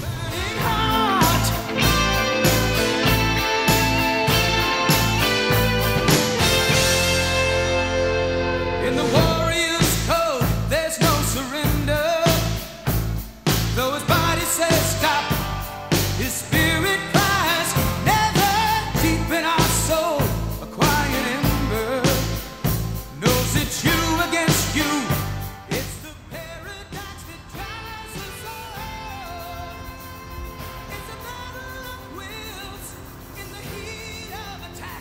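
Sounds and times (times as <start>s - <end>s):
pop-rock song with vocals: 0.0s - 35.0s.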